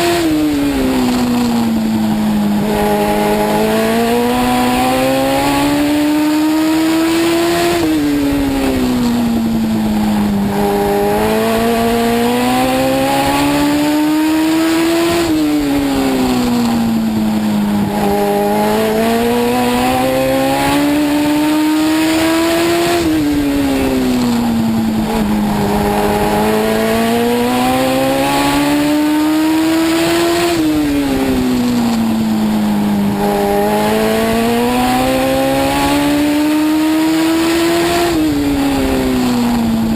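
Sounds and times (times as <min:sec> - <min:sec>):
car engine revving and dropping: 0:00.0 - 0:39.9.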